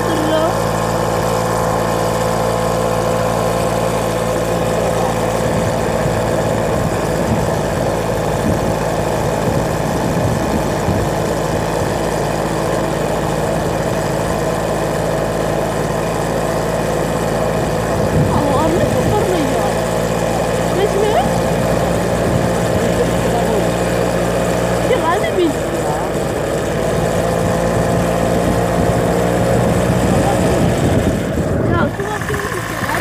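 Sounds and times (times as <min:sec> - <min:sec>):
road and wind noise: 0:00.0 - 0:33.0
vehicle engine running: 0:00.0 - 0:33.0.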